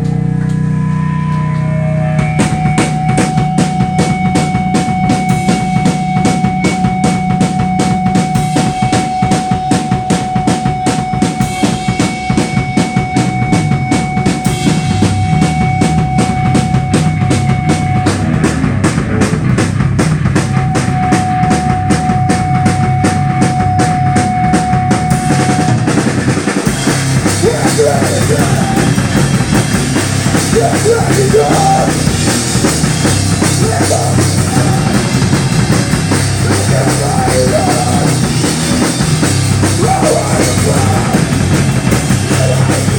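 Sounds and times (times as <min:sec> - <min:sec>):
drum kit: 0:00.0 - 0:42.9
electric bass: 0:00.0 - 0:42.9
electric guitar: 0:00.0 - 0:42.9
rock band playing: 0:00.0 - 0:42.9.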